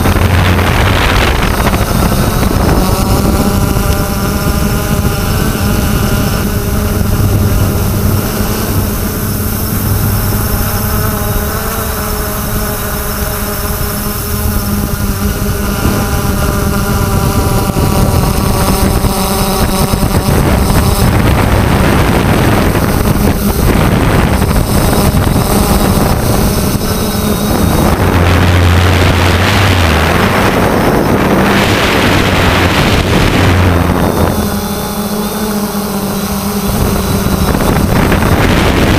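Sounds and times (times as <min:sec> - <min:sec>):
drone propellers buzzing: 0:00.0 - 0:38.9
wind on microphone: 0:00.0 - 0:38.9.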